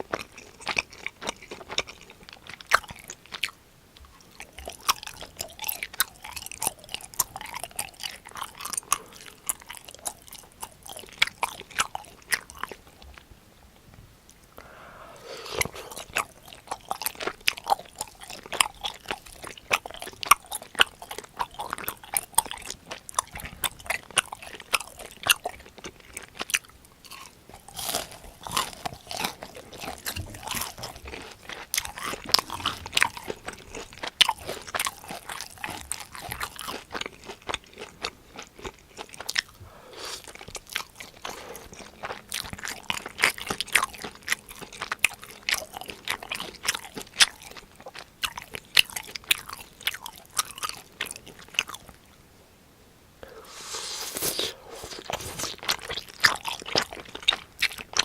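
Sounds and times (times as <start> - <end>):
crunchy chewing of fried food: 0.0 - 52.2, 53.2 - 58.0.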